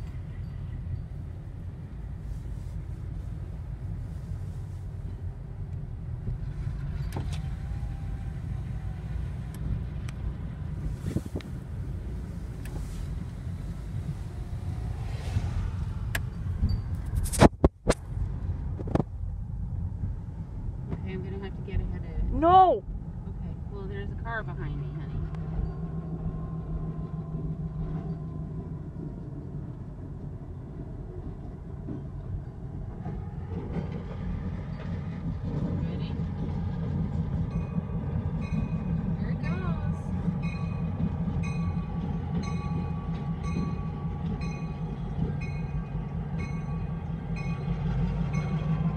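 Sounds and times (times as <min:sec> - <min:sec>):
car engine and tyres rumbling: 0:00.0 - 0:48.9.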